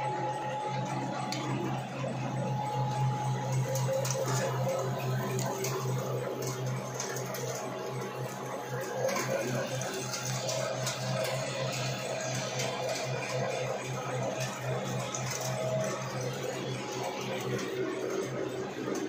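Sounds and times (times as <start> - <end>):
machine motor hum: 0.0 - 19.0.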